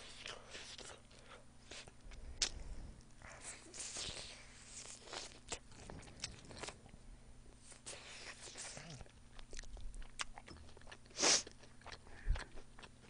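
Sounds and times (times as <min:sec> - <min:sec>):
chewing crunchy food: 0:00.0 - 0:07.0, 0:07.8 - 0:13.0.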